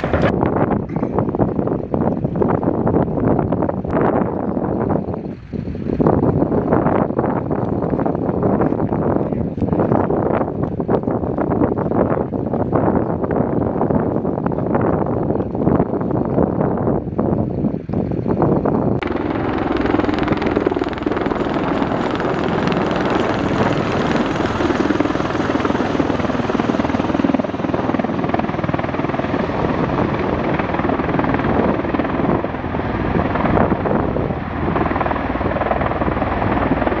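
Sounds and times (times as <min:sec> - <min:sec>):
tiltrotor aircraft rotor noise: 0:00.0 - 0:37.0.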